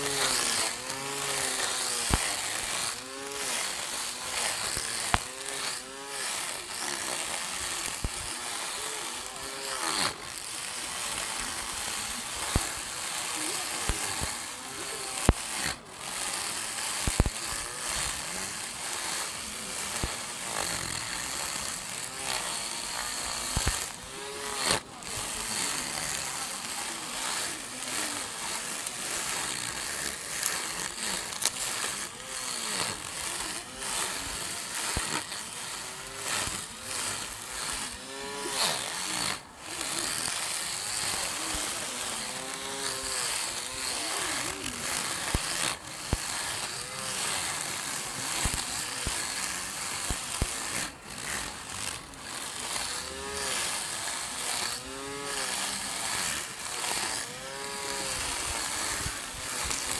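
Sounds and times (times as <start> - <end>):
grass trimmer whirring: 0.0 - 59.9.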